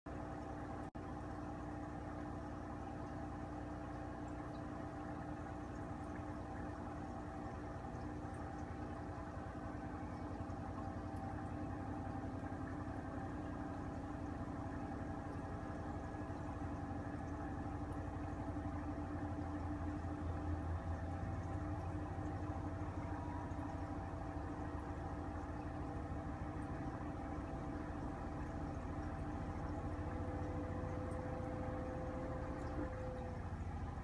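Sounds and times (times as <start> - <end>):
mechanical hum with tones: 0.1 - 34.0.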